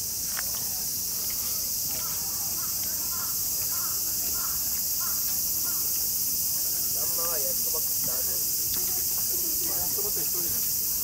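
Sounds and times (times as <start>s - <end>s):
insects chorus: 0.0s - 11.0s
faint voices: 0.2s - 11.0s.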